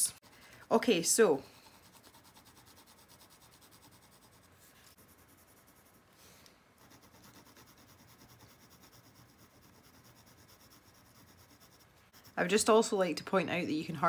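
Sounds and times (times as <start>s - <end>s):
pencil scratching on paper: 0.1s - 12.9s.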